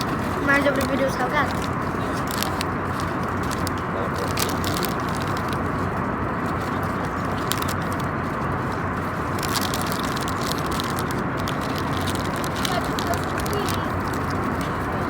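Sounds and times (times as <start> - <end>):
airliner cabin hum: 0.0 - 15.0
light crackles: 0.0 - 15.0.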